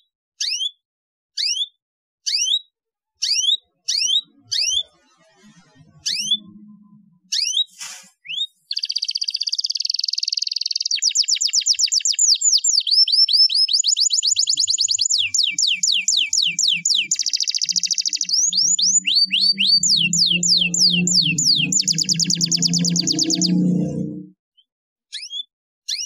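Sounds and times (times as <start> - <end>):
canary singing: 2.3 - 7.7, 8.3 - 24.3.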